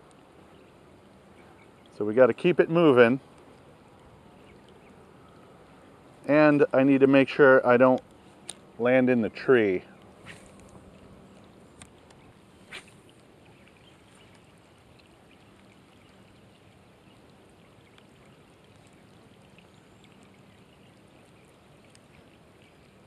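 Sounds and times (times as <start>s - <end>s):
light rain pattering on a pond: 0.0s - 23.0s.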